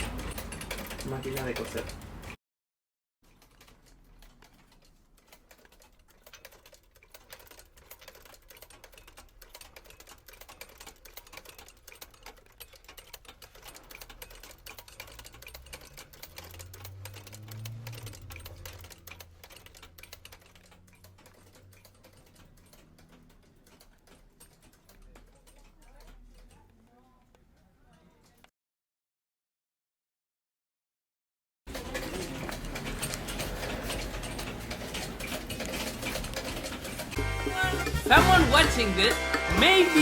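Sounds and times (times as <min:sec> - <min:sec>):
sewing machine stitching: 0:00.0 - 0:02.4, 0:03.2 - 0:28.5, 0:31.7 - 0:40.0.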